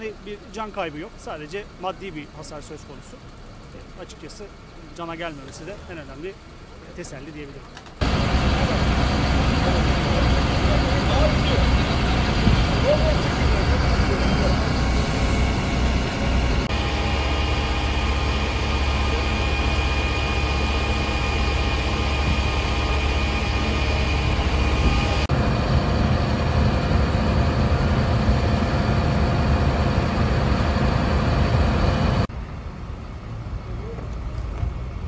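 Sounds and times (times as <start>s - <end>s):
faint steady whine: 0.0s - 34.2s
diesel engines rumbling: 0.0s - 35.0s.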